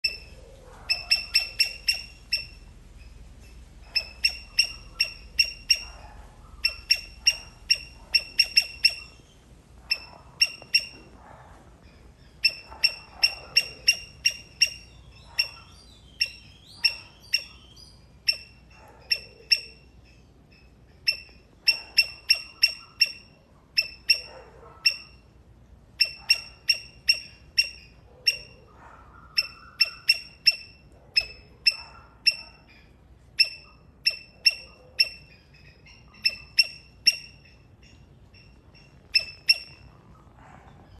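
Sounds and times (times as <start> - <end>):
squirrel chipping calls: 0.0 - 40.9.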